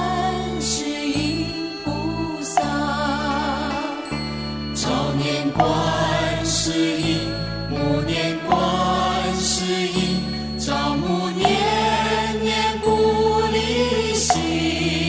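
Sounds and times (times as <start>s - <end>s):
slow chant-like melody: 0.0s - 15.0s
sustained low tones: 0.0s - 15.0s.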